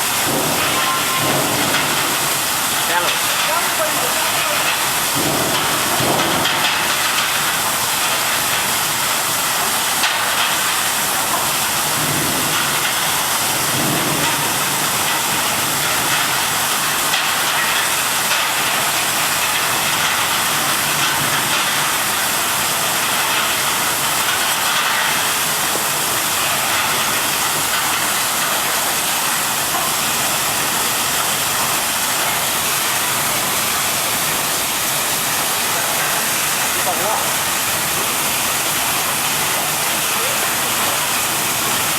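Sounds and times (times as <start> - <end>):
spraying water hiss: 0.0 - 41.9
washing machine running: 0.0 - 41.9.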